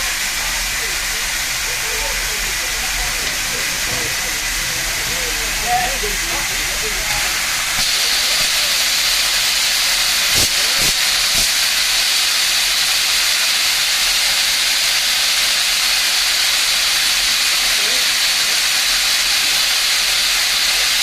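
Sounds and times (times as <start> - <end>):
steam valve hissing: 0.0 - 21.0.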